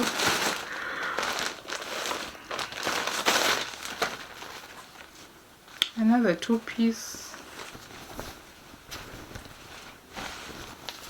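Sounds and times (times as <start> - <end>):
plastic packaging crinkling: 0.0 - 5.9, 7.3 - 11.0.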